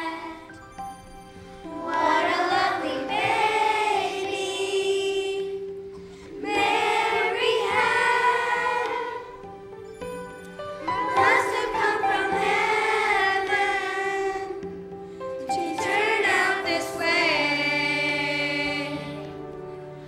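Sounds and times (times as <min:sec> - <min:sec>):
children's choir singing: 0:00.0 - 0:01.0, 0:01.6 - 0:20.0
instrumental accompaniment: 0:00.0 - 0:20.0.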